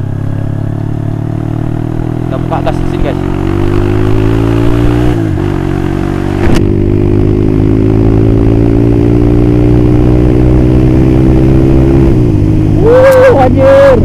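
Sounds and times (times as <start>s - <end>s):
motorcycle engine riding: 0.0s - 14.0s.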